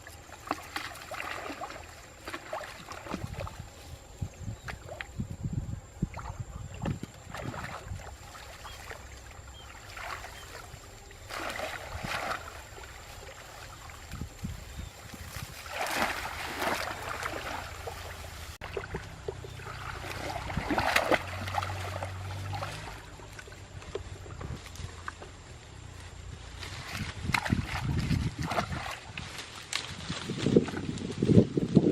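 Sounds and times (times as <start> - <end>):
water splashing: 0.0 - 4.0, 6.0 - 25.3, 26.6 - 29.9.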